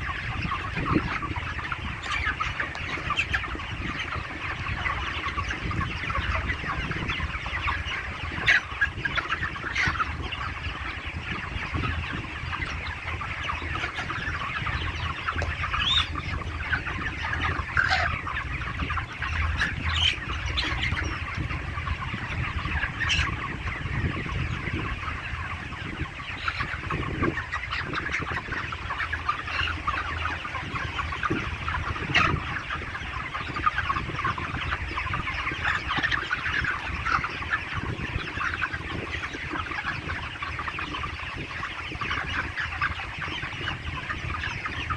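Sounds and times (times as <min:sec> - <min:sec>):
chickens clucking and cheeping: 0:00.0 - 0:44.9.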